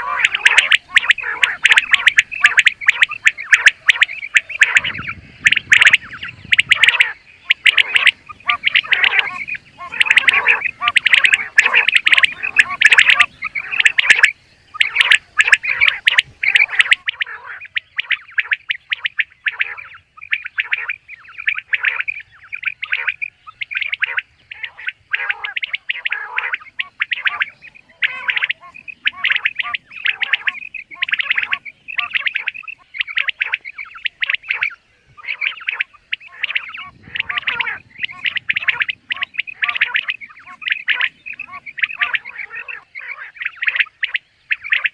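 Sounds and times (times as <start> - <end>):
quail calling: 0.0 - 44.9.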